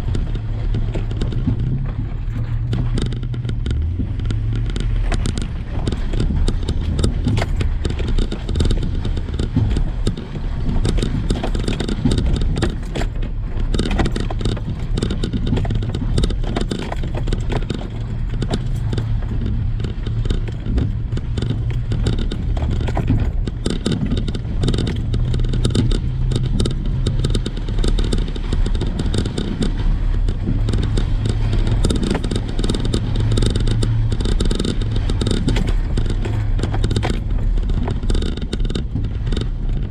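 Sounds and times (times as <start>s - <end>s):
clattering and knocking: 0.0s - 39.9s
truck engine running slowly: 0.0s - 39.9s.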